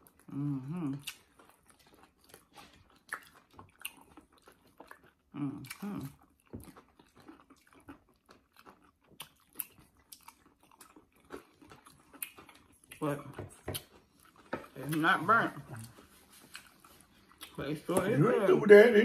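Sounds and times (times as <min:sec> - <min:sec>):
chewing crispy food: 0:00.0 - 0:19.0.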